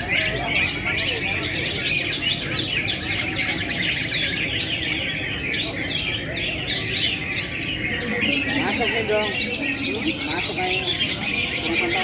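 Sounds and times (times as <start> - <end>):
caged songbirds chirping: 0.0 - 12.0.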